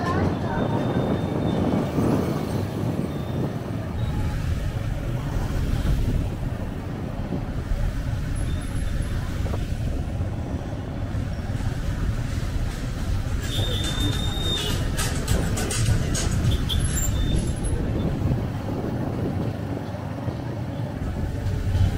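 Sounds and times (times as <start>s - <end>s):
road traffic rumble: 0.0s - 21.9s
wind noise on microphone: 0.0s - 21.9s.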